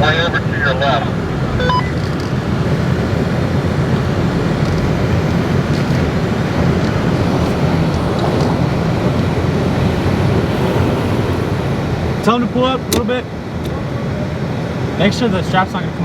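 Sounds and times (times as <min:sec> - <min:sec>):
vehicle engine running under load: 0:00.0 - 0:15.3.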